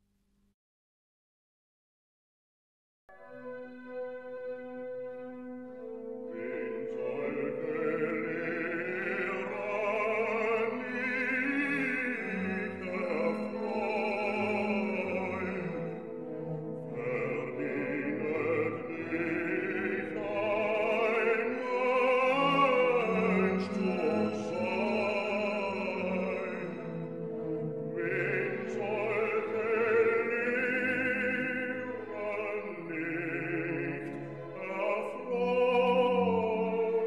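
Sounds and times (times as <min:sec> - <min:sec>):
orchestral accompaniment: 0:03.1 - 0:37.0
opera singing with vibrato: 0:06.3 - 0:27.1, 0:27.9 - 0:37.0.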